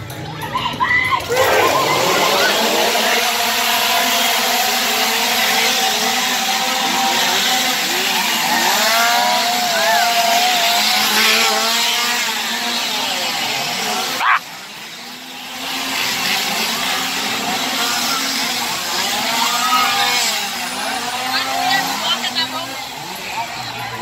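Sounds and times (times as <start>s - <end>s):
chainsaws revving: 1.2s - 24.0s.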